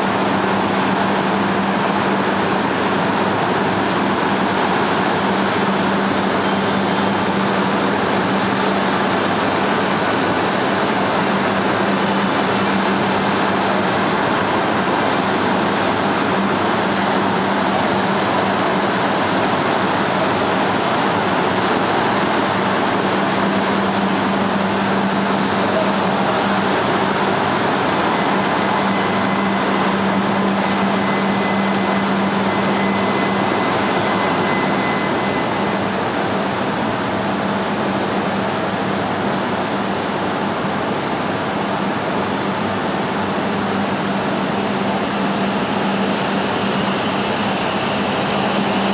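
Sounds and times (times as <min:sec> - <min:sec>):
high-speed train noise: 0:00.0 - 0:48.9.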